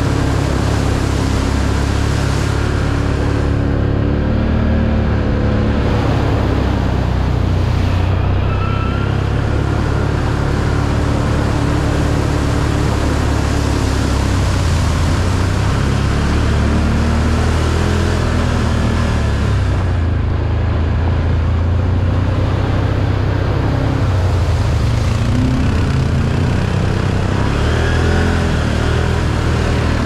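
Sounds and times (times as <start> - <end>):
atv engine running: 0.0 - 30.0
wind and ground noise: 0.0 - 30.0.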